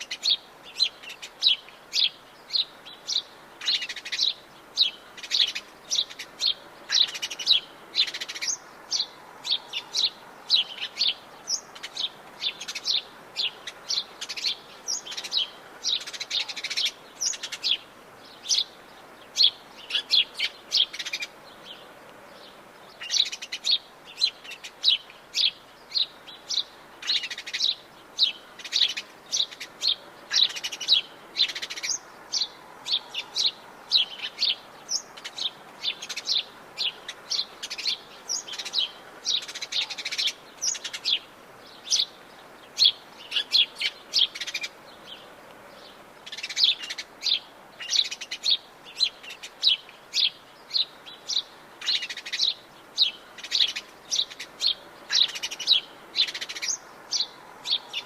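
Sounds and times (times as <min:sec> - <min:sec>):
birds chirping and singing: 0:00.0 - 0:58.0
faint background hiss: 0:00.0 - 0:58.0.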